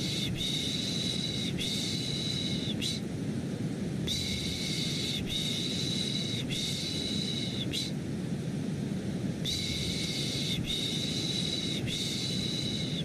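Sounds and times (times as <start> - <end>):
white noise: 0.0 - 13.0.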